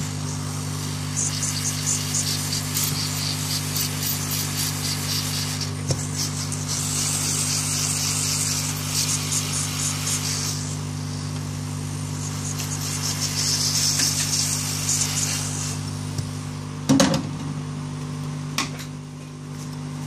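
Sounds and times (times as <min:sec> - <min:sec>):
hot-air gun blowing: 0:00.0 - 0:16.6.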